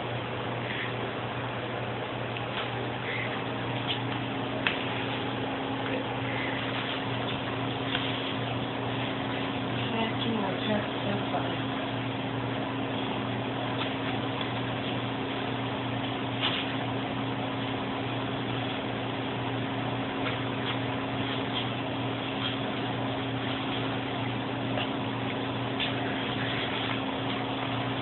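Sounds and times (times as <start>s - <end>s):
low electrical hum with hiss: 0.0s - 28.0s.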